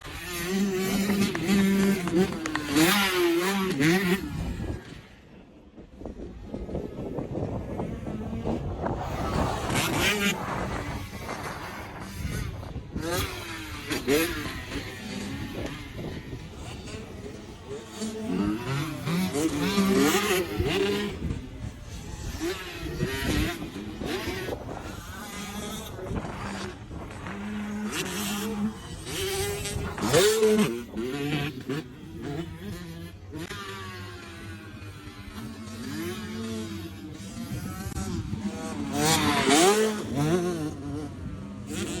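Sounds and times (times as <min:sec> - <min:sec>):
dirt bike engine revving: 0:00.0 - 0:05.2, 0:06.4 - 0:42.0.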